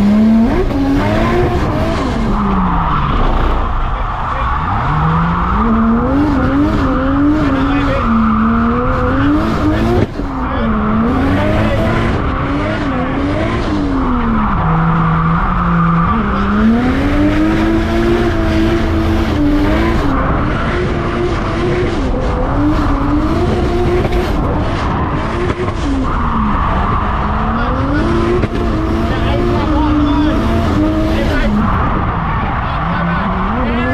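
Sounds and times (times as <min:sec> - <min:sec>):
car engine revving hard: 0:00.0 - 0:33.9.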